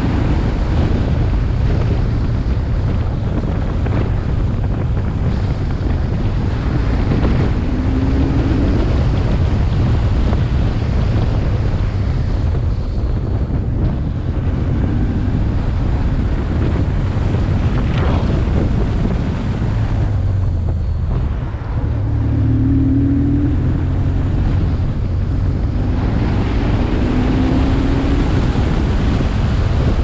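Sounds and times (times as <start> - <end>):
motorcycle engine droning: 0.0 - 30.0
wind buffeting microphone: 0.0 - 30.0.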